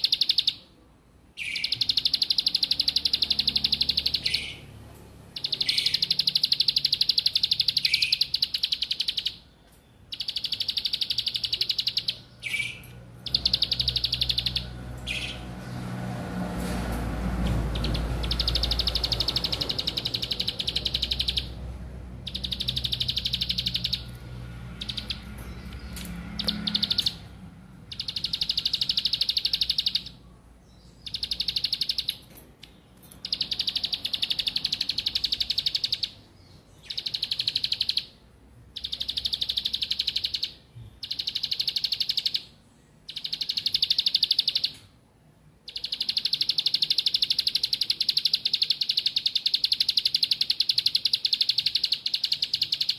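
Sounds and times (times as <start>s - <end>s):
bird buzzy trill: 0.0s - 0.7s, 1.4s - 15.6s, 17.4s - 30.2s, 31.0s - 44.9s, 45.6s - 52.9s.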